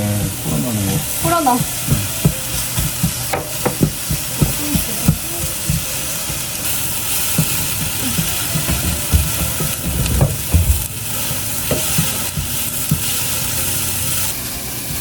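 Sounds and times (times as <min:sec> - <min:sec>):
food sizzling in a frying pan: 0:00.0 - 0:15.0
utensil clacking against pan: 0:00.3 - 0:14.3.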